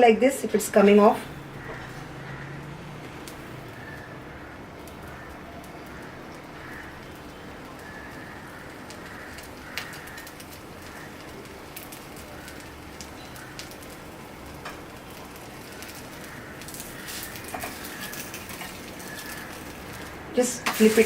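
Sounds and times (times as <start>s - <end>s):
batter sizzling in oil: 0.6s - 21.0s.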